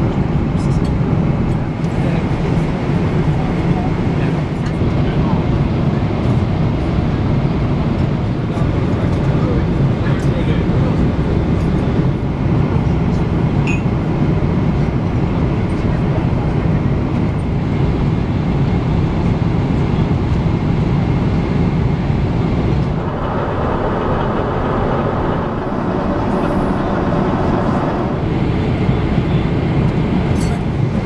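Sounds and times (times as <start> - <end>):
air rushing over aircraft fuselage: 0.0 - 31.0
jet engines droning: 0.0 - 31.0.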